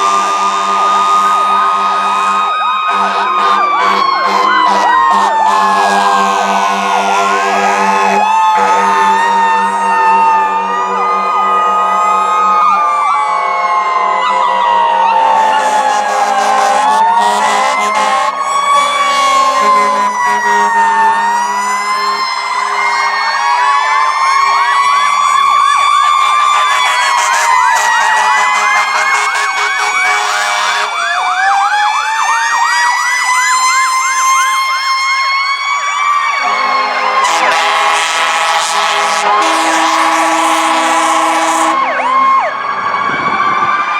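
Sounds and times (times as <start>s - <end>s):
siren wail: 0.0s - 43.9s
siren yelp: 0.0s - 43.9s.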